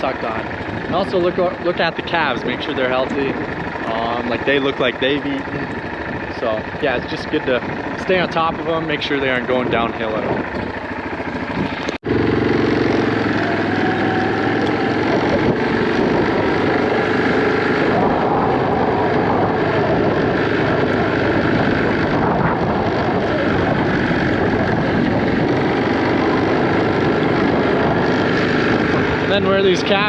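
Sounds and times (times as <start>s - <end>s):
wind noise on microphone: 0.0s - 4.8s, 5.4s - 12.1s, 13.0s - 30.0s
vehicle engine running: 0.0s - 30.0s.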